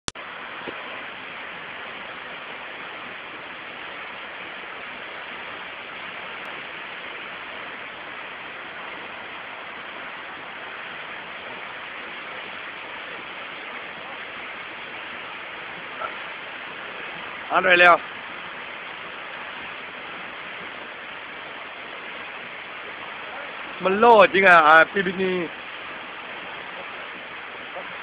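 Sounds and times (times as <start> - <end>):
waterfall rushing: 0.2 - 28.0.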